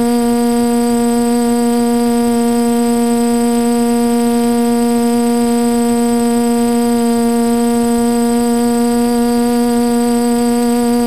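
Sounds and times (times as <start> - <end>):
drone motors humming with whine: 0.0 - 11.0.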